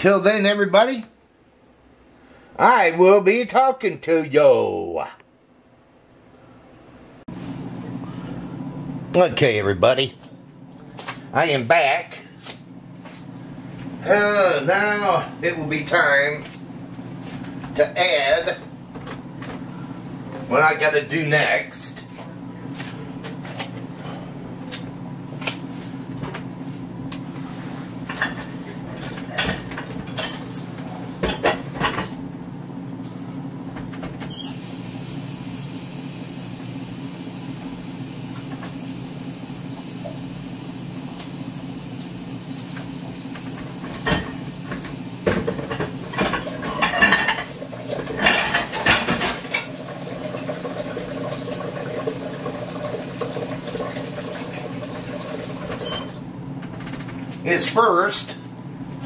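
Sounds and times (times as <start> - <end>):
steady low hum: 0.0 - 49.7.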